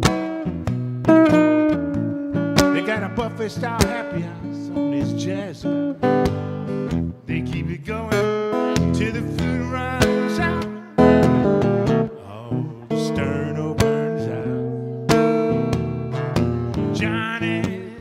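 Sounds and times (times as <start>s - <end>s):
acoustic guitar blues: 0.0s - 18.0s.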